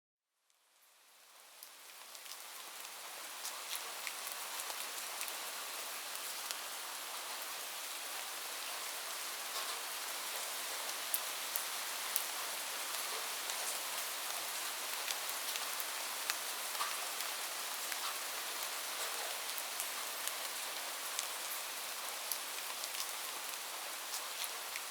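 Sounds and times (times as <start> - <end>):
light rain falling: 0.4 - 24.9.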